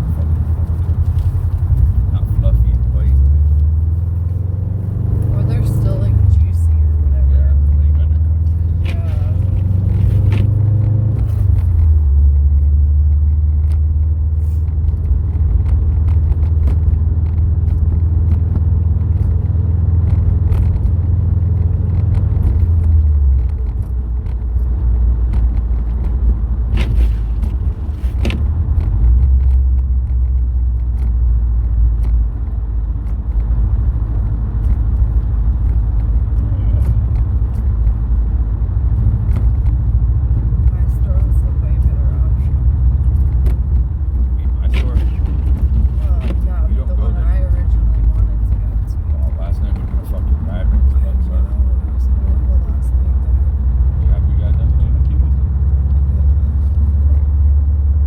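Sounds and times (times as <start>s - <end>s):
car engine droning: 0.0s - 58.0s
road noise: 0.0s - 58.0s.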